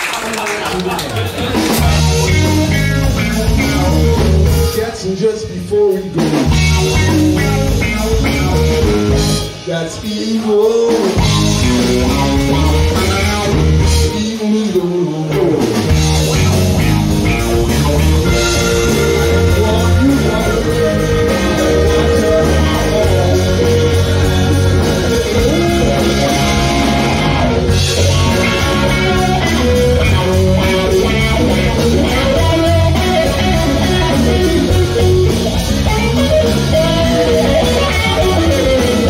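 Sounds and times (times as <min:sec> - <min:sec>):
drum kit: 0:00.0 - 0:39.0
bass guitar: 0:01.0 - 0:39.0
electric guitar: 0:01.4 - 0:39.0.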